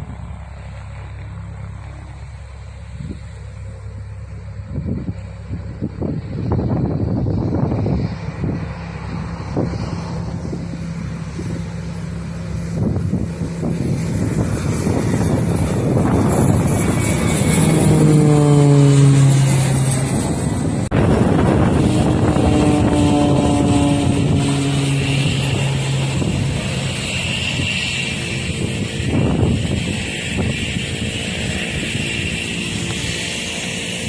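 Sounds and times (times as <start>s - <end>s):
turboprop aircraft flying past: 0.0s - 34.0s.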